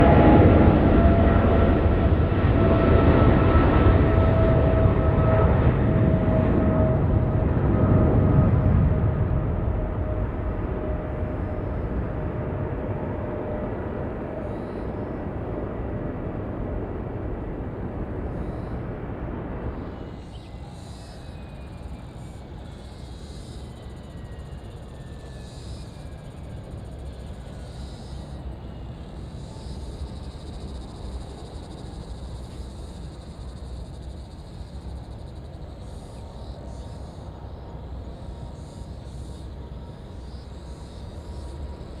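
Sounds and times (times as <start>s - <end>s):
distant jet rumble: 0.0s - 42.0s
jet engine whine: 0.0s - 42.0s.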